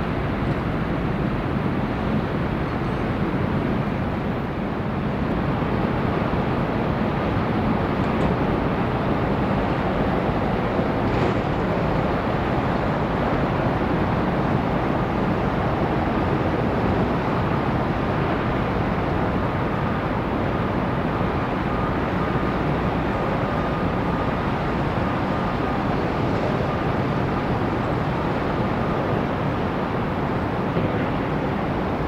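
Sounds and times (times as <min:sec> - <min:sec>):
open water: 0:00.0 - 0:32.0
ship engines rumbling: 0:00.0 - 0:32.0.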